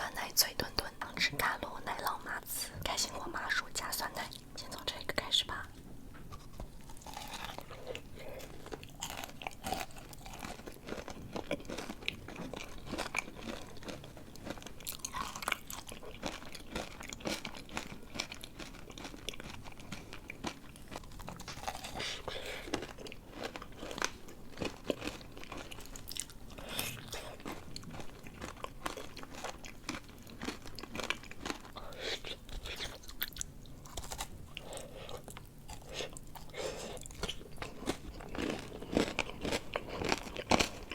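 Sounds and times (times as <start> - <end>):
crunchy dessert biting and chewing: 6.3 - 40.9.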